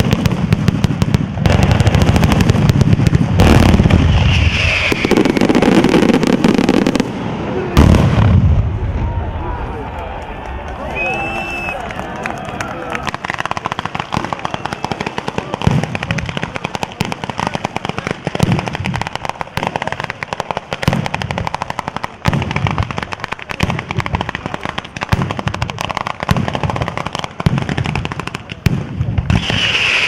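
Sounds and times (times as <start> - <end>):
heavy firecracker bangs: 0.0 - 9.4, 13.0 - 30.0.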